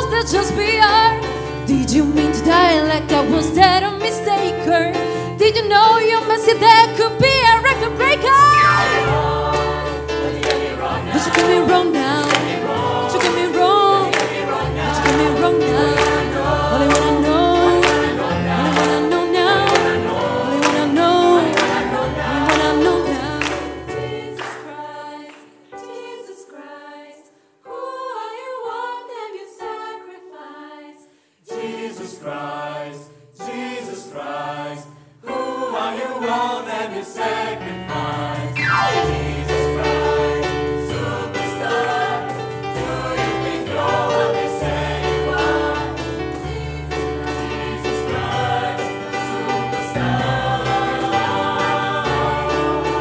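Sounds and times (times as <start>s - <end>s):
mixed choir singing: 7.6s - 53.0s.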